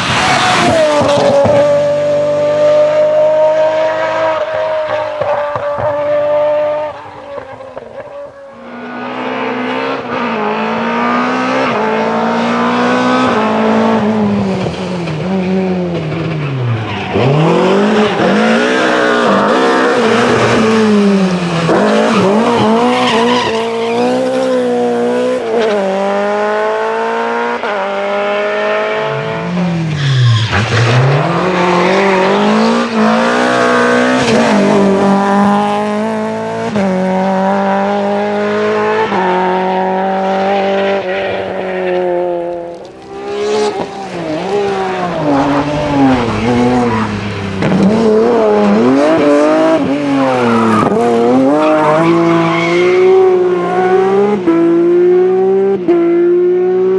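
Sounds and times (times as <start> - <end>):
rally car engine at full throttle: 0.0 - 56.9.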